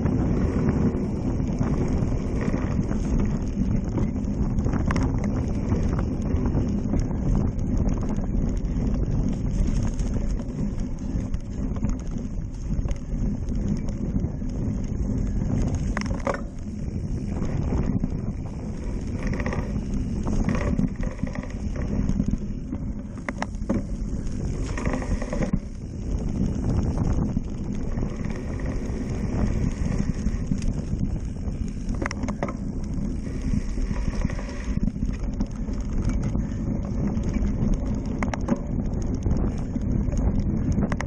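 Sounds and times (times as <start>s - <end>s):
bike knocks and rattles: 0.0s - 41.0s
bike tyres rumbling on dirt: 0.0s - 41.0s.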